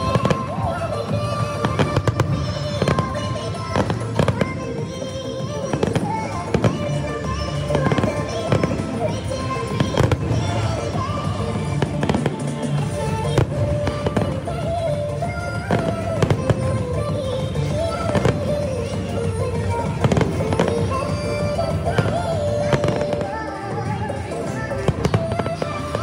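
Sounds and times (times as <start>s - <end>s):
fireworks bangs and crackles: 0.0s - 26.0s
melodic music: 0.0s - 26.0s.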